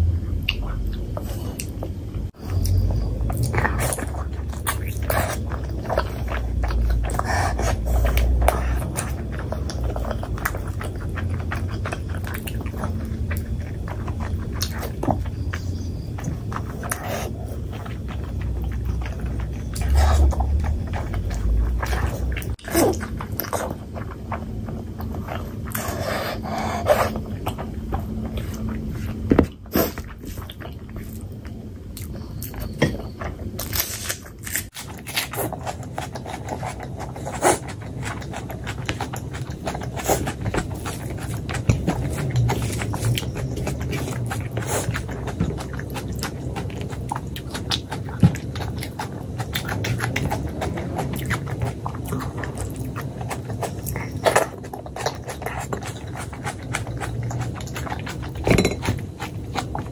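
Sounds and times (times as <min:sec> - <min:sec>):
person chewing: 0:00.3 - 0:59.9.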